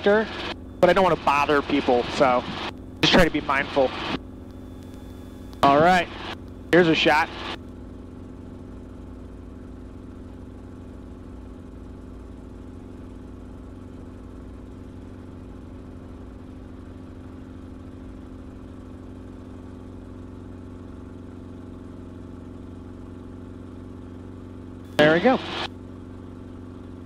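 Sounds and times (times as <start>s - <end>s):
helicopter drone from inside cabin: 0.0s - 27.0s.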